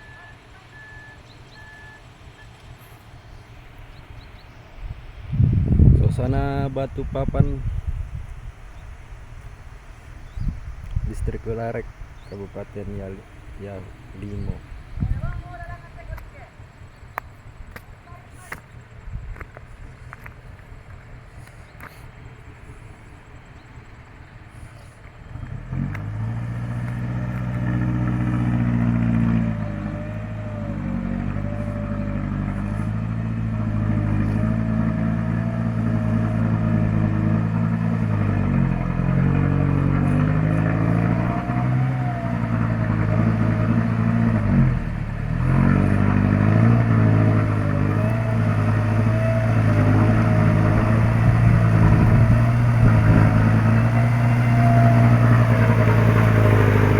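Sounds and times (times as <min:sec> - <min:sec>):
diesel truck engine under load: 0:00.0 - 0:18.0, 0:18.6 - 0:56.9.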